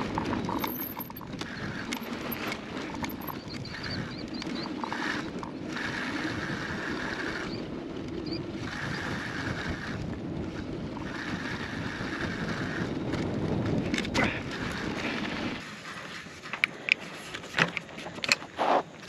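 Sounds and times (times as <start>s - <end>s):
wind on microphone: 0.0s - 15.6s
bicycle tyres rolling on dirt: 0.0s - 19.0s.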